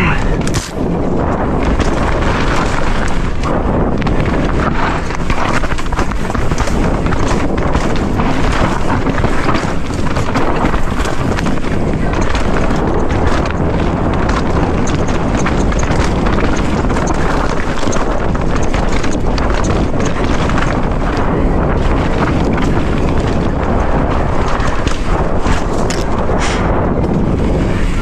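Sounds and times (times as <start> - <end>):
tyres crunching over stones: 0.0 - 26.4
bike rattling: 0.0 - 28.0
wind buffeting microphone: 0.0 - 28.0.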